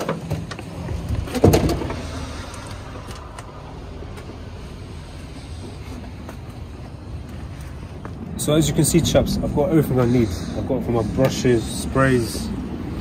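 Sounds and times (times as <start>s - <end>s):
steady low rumble: 0.4s - 13.0s.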